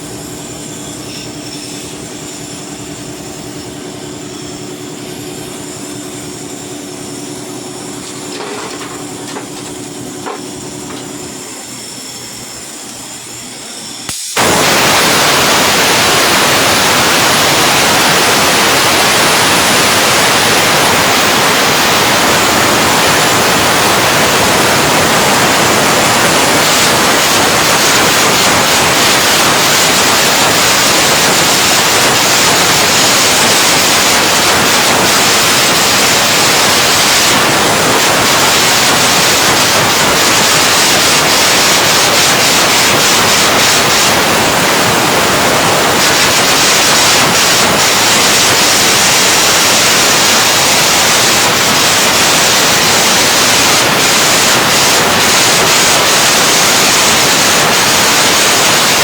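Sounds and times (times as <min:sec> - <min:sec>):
welding arc crackling: 0:00.0 - 0:13.3, 0:14.0 - 0:59.0.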